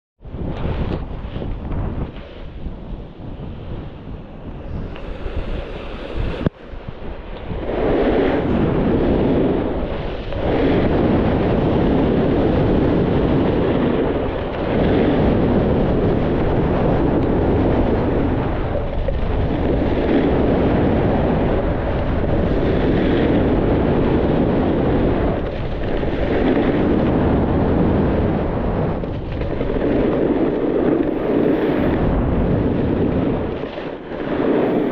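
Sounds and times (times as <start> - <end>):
snowboard scraping over snow: 0.3 - 34.9.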